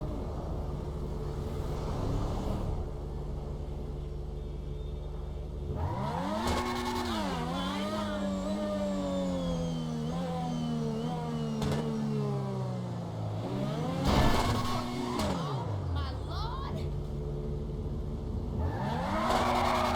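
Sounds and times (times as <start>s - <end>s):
race car engine idling and revving: 0.0s - 19.9s.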